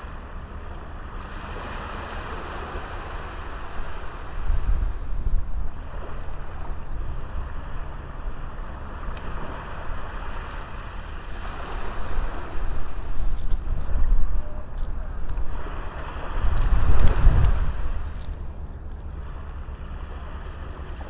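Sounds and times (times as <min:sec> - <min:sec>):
ocean waves breaking: 0:00.0 - 0:21.0
wind rumbling on microphone: 0:01.2 - 0:21.0.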